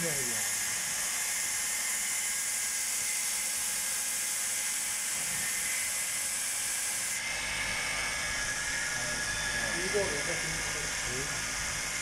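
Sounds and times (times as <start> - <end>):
belt sander grinding wood: 0.0 - 12.0.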